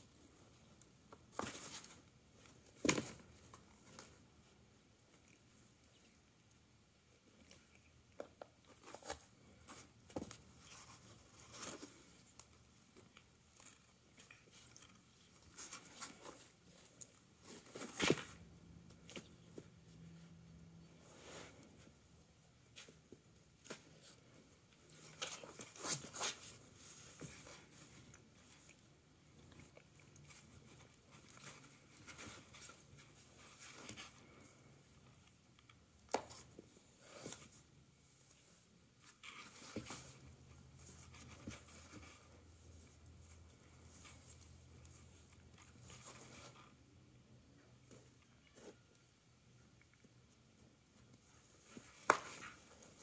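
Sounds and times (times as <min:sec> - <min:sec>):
soft rustling: 0:00.0 - 0:53.0.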